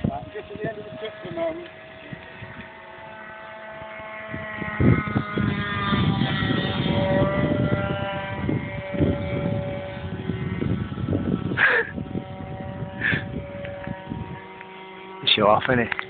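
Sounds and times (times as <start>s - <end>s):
model plane engine whine: 0.0s - 16.0s.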